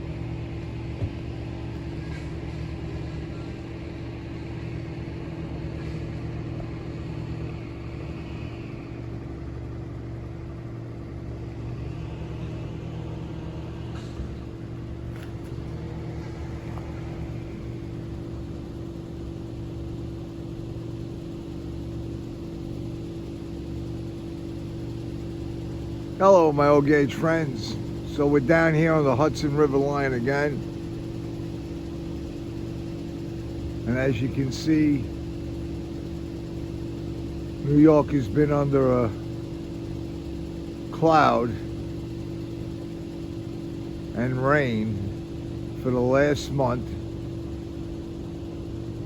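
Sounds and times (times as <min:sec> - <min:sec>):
engine idling hum: 0:00.0 - 0:49.0.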